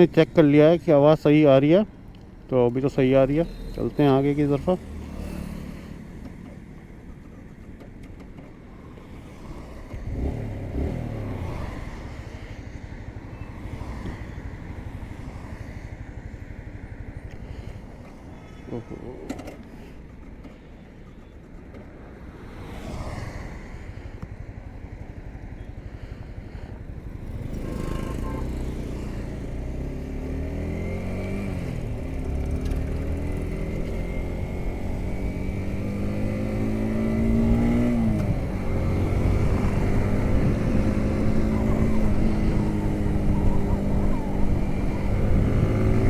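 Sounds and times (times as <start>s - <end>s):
motorcycle engine accelerating: 0.0s - 20.3s, 22.4s - 46.0s.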